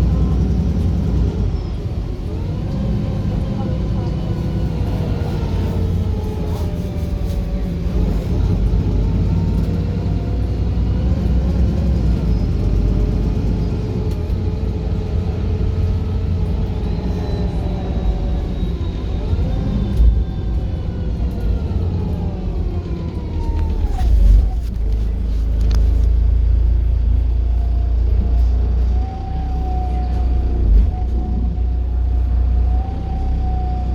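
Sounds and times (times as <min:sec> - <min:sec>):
bus engine rumble with whine: 0:00.0 - 0:33.9.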